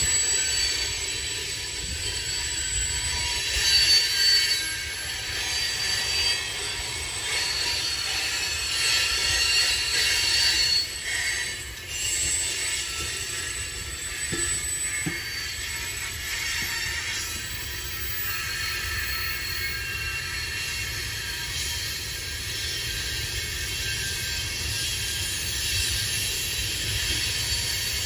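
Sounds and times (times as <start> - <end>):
high-pitched wheel squeal: 0.0 - 28.0
steel wheels rolling on rail: 0.0 - 28.0.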